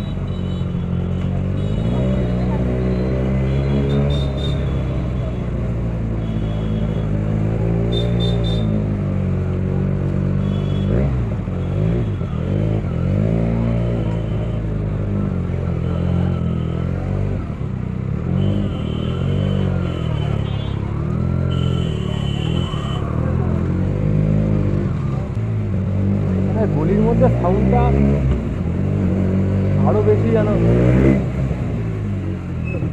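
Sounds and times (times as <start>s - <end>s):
motorcycle engine revving: 1.5s - 32.9s.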